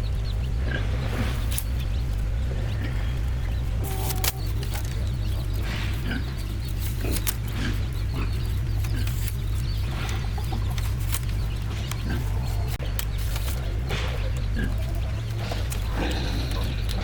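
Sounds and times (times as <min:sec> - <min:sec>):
chickens clucking: 0:00.0 - 0:17.0
steady low hum: 0:00.0 - 0:17.0
scattered clicks: 0:01.4 - 0:17.0.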